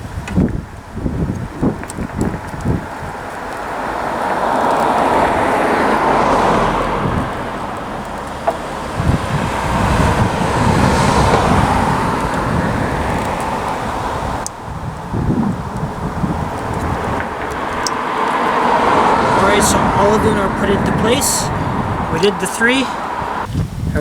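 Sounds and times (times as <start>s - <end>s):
cars passing: 0.0s - 23.5s.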